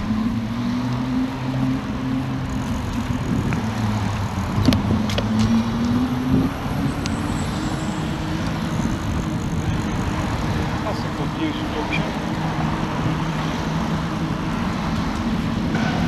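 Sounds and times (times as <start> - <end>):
car engines humming: 0.0 - 16.0
wind and road noise: 0.0 - 16.0.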